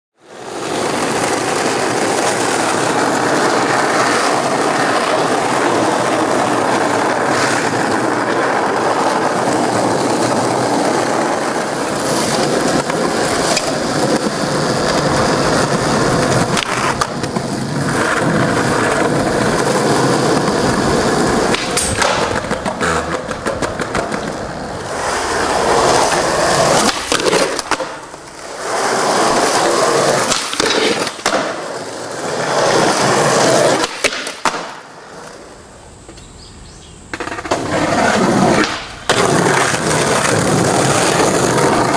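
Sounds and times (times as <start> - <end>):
skateboard clacking on ground: 0.2 - 36.3, 37.0 - 41.9
skateboard wheels rolling on pavement: 0.2 - 41.9.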